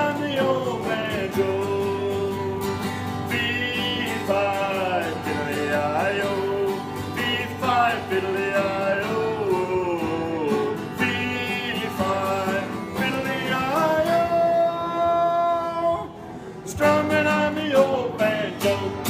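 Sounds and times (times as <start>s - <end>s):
person singing folk song: 0.0s - 19.0s
strummed acoustic guitar: 0.0s - 19.0s.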